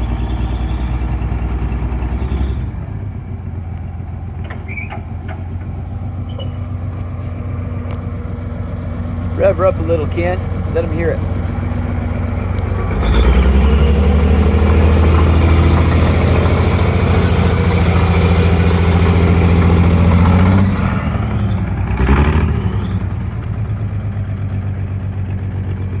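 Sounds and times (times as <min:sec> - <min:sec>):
forklift engine revving and idling: 0:00.0 - 0:26.0.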